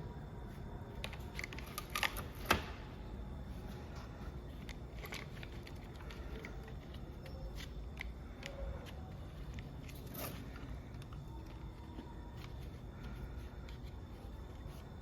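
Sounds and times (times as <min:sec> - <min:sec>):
small parts and tools clicking: 0:00.9 - 0:02.6, 0:03.9 - 0:15.0.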